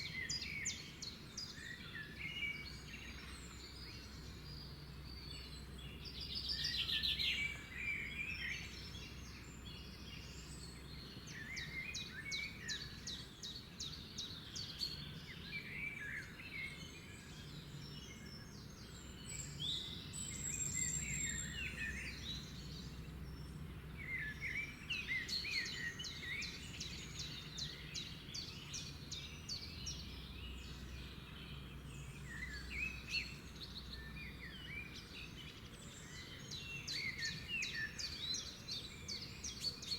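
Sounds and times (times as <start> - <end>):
songbirds singing and trilling: 0.0 - 39.9.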